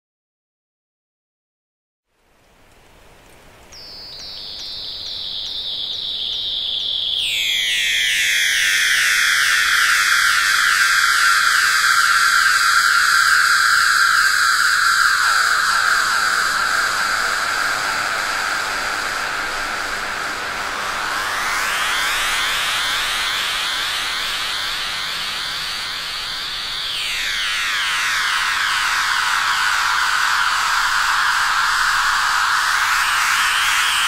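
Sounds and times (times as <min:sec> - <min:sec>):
electronic chirping whistle tones: 0:03.9 - 0:34.0.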